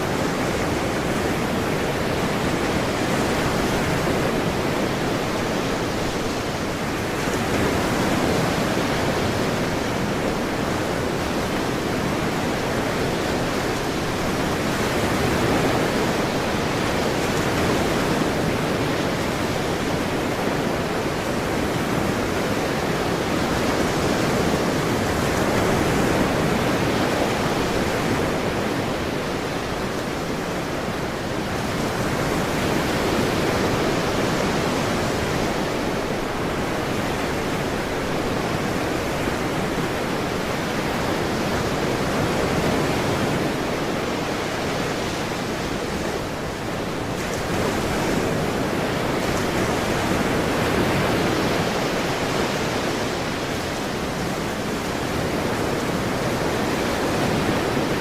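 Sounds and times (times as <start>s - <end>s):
ocean surf washing in: 0.0s - 58.0s.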